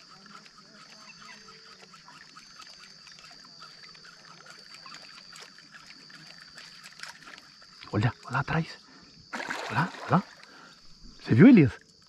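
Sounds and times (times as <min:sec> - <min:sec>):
trickling water: 0:00.0 - 0:12.0.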